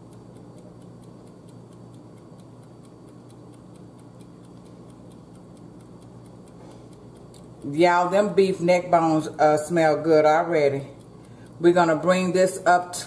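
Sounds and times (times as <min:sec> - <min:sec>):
rapid even ticking: 0:00.0 - 0:13.0.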